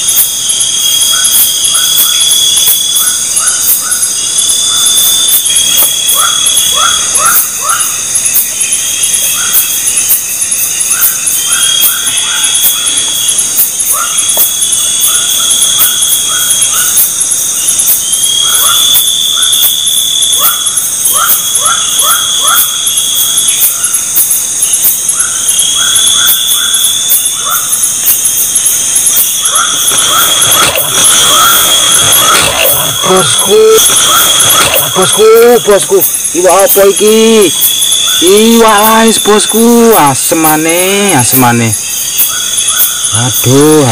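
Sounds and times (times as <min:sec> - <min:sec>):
drawn-out high insect call: 0:00.0 - 0:43.9
high-pitched insect trilling: 0:00.0 - 0:43.9
short insect chirps: 0:00.0 - 0:43.9.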